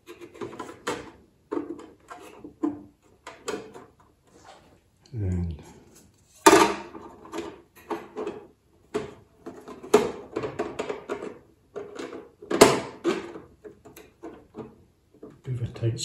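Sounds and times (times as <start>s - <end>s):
plastic parts clicking and knocking: 0.0s - 4.2s, 6.4s - 15.5s.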